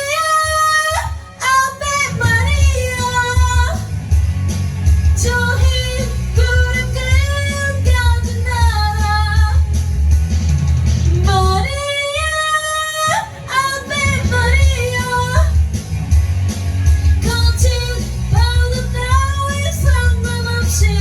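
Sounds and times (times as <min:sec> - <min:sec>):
woman singing with vibrato: 0:00.0 - 0:04.1, 0:05.2 - 0:09.8, 0:11.2 - 0:15.8, 0:17.2 - 0:21.0
karaoke backing track: 0:00.0 - 0:21.0.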